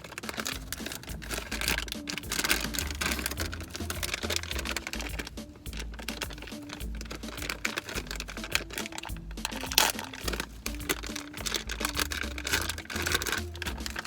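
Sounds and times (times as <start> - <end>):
background music: 0.0 - 14.0
plastic wrapper crinkling: 0.0 - 14.0.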